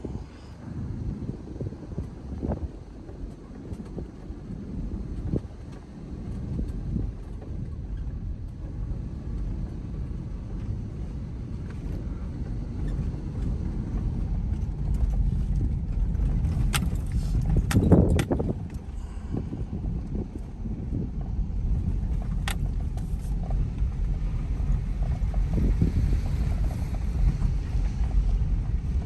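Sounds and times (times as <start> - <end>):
vehicle driving rumble: 0.0 - 29.0.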